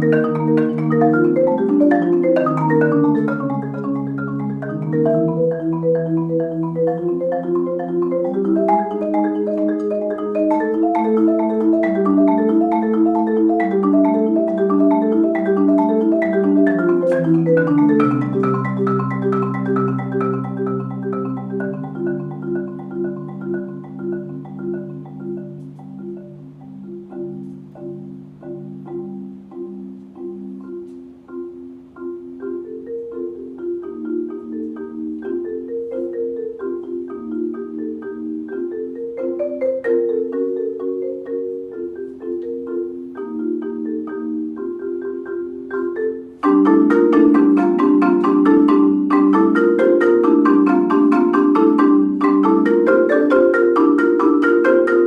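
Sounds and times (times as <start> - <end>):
solo marimba: 0.0 - 55.0.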